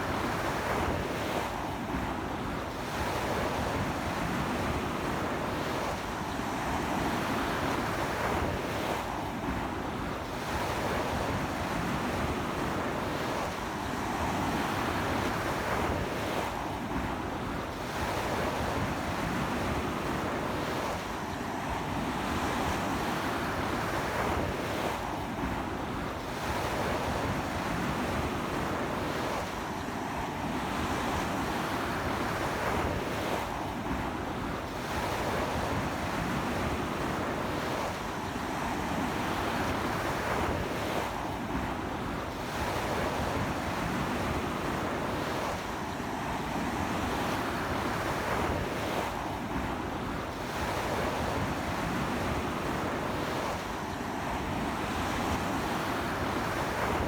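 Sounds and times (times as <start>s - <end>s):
strong wind: 0.0s - 57.0s.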